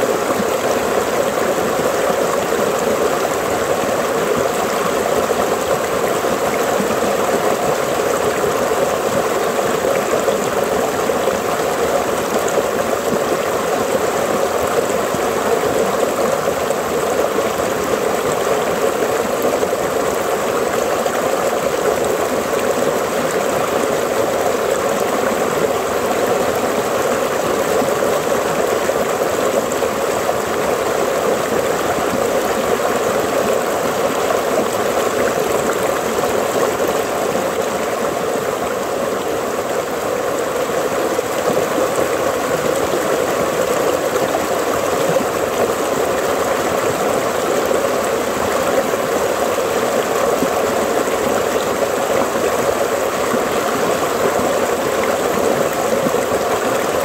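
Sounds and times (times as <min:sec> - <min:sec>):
stream flowing and trickling: 0:00.0 - 0:57.0.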